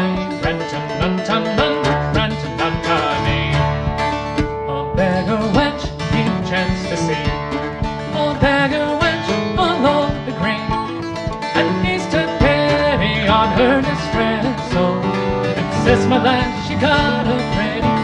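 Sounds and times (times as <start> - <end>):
plucked string instrument folk tune: 0.0 - 18.0.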